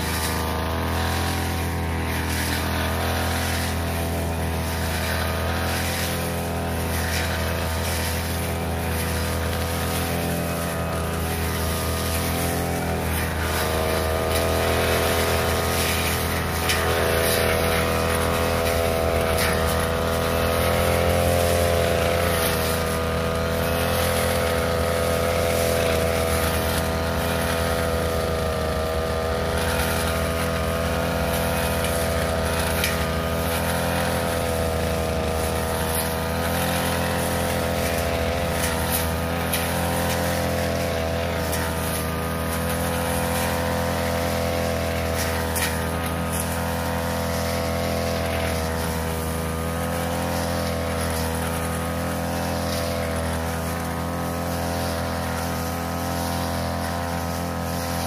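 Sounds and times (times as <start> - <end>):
brush cutter engine under load: 0.0 - 58.0.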